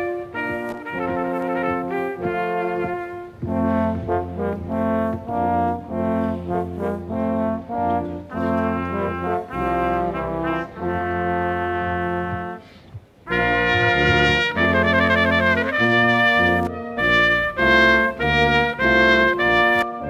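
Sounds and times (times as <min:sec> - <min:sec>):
brass ensemble playing chords: 0:00.0 - 0:20.0.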